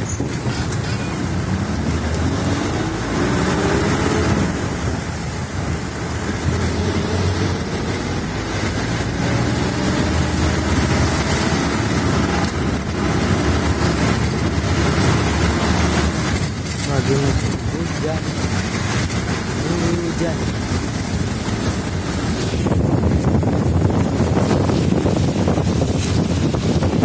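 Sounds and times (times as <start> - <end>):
rain: 0.0 - 27.0
vehicle road and engine noise: 0.0 - 27.0.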